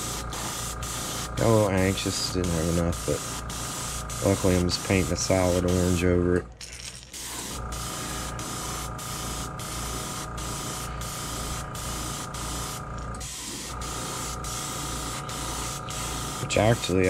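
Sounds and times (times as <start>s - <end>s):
airbrush hissing: 0.0s - 6.0s, 7.1s - 17.0s.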